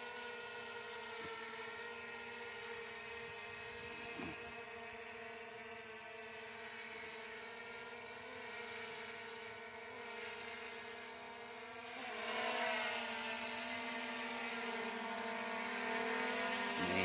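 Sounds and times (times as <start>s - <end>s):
drone propellers whirring: 0.0s - 17.0s.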